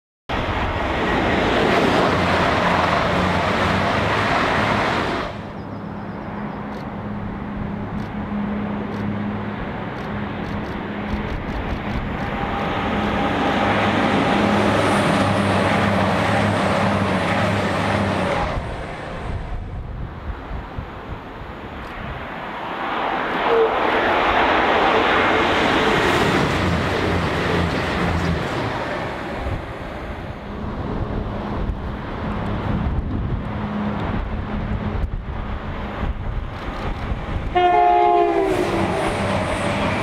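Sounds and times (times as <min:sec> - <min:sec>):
train wheels on rails: 0:00.3 - 0:40.0.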